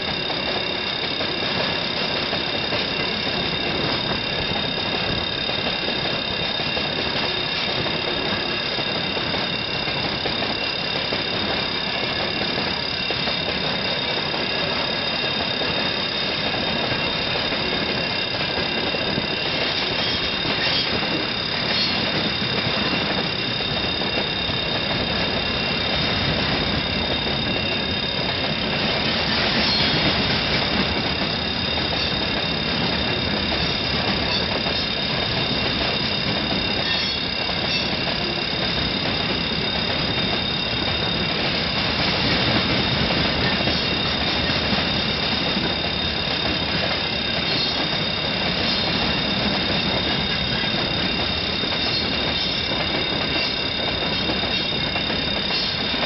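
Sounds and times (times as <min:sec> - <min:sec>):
high-pitched wheel squeal: 0:00.0 - 0:56.0
train wheels rumbling on rails: 0:00.0 - 0:56.0.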